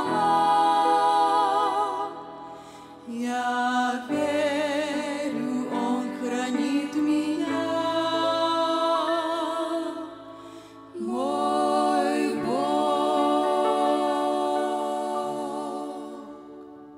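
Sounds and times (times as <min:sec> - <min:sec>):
grand piano accompaniment: 0:00.0 - 0:16.9
women singing in harmony: 0:00.0 - 0:16.9.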